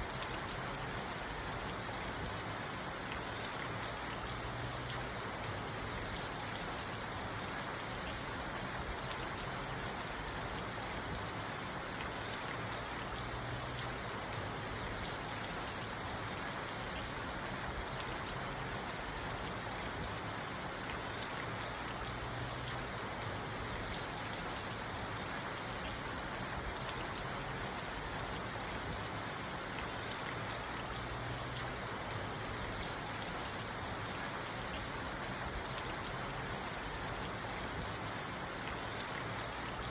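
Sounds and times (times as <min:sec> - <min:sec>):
rain drumming on car roof: 0:00.1 - 0:39.9.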